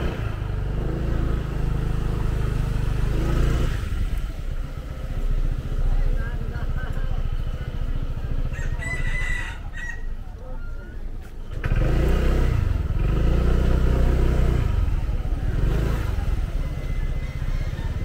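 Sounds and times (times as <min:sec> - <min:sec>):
motor scooter engine revving: 0:00.0 - 0:08.5, 0:11.4 - 0:18.0.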